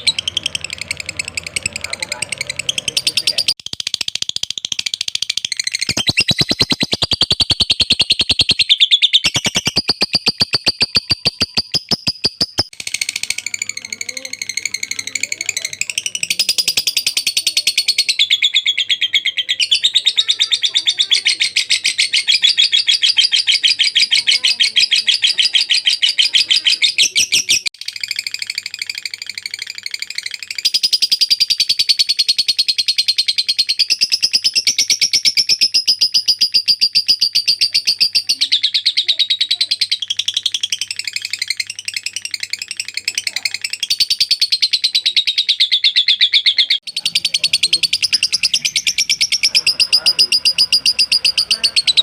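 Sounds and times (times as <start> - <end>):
bird chattering trill: 0.0 - 52.0.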